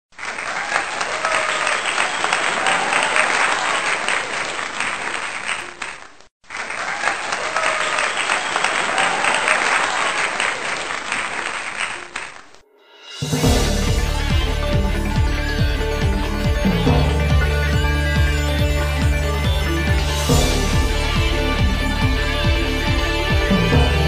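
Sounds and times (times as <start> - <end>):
crowd applauding and cheering: 0.1 - 12.6, 13.4 - 24.0.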